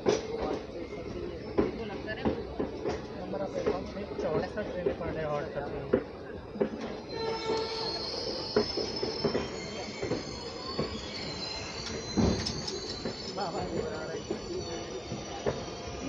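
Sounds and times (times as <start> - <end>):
rumble of train coaches: 0.0 - 16.0
train brakes squealing: 0.0 - 16.0.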